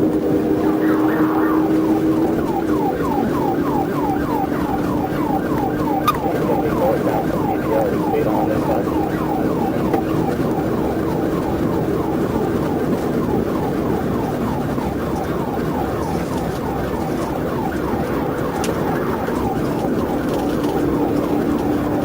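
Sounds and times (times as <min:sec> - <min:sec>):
police siren yelping: 0:00.0 - 0:22.0
steady drone: 0:00.0 - 0:22.0.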